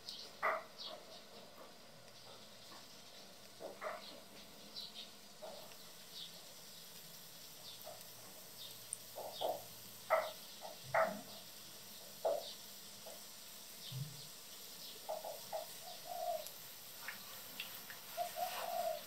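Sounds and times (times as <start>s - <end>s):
batter sizzling in hot oil: 0.0s - 19.0s
oil crackling and popping: 1.2s - 19.0s.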